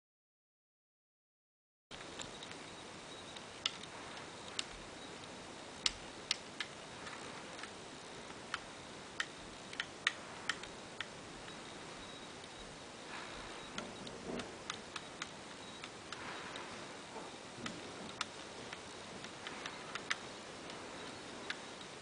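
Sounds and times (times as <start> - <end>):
steady hiss: 1.9 - 22.0.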